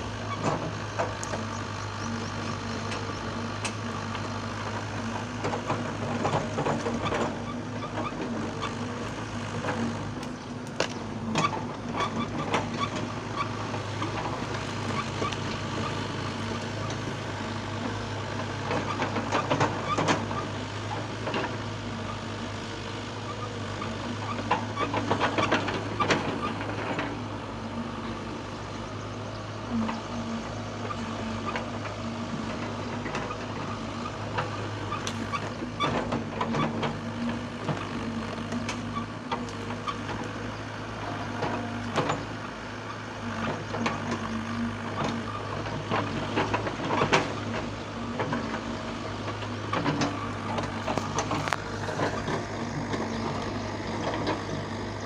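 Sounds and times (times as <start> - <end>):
heavy machine engine humming: 0.0 - 55.0.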